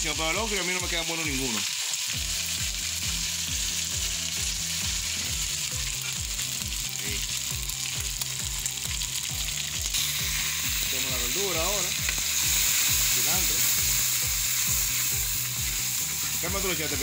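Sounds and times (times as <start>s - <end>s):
tomato sauce sizzling in a pot: 0.0s - 17.0s.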